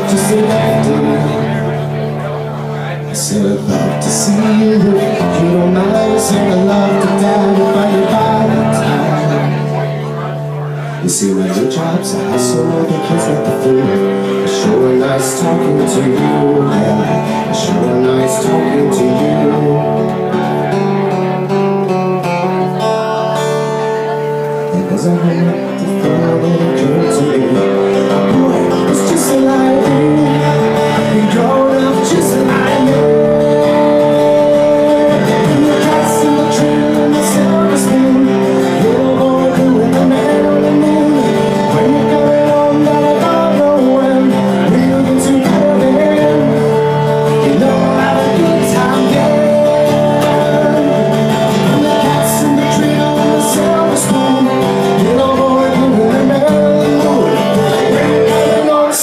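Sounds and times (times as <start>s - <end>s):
man singing into microphone: 0.0s - 21.6s, 22.7s - 59.0s
acoustic guitar strumming: 0.0s - 59.0s.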